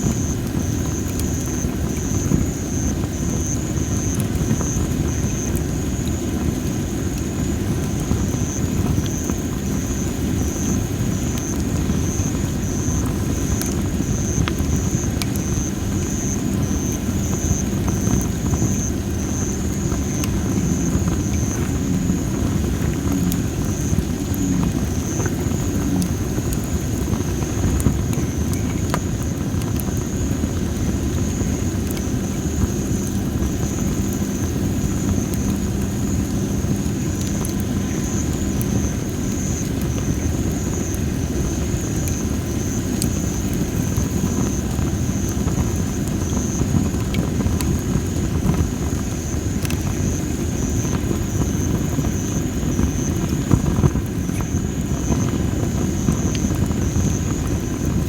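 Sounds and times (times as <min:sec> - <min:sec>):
firewood crackling and popping: 0:00.0 - 0:58.0.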